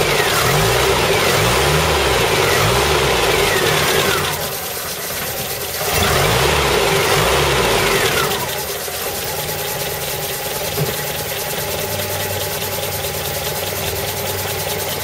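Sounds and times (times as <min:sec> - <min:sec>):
petrol engine running: 0:00.0 - 0:15.0.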